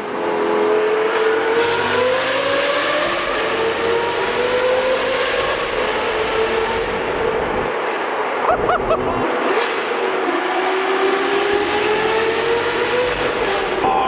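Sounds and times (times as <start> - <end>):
sports car accelerating hard: 0.0 - 14.0.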